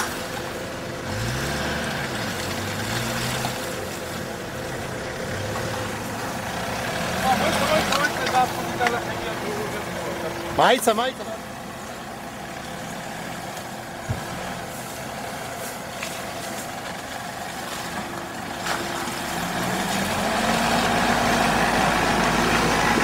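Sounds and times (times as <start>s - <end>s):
suv engine running under load: 0.0s - 23.0s.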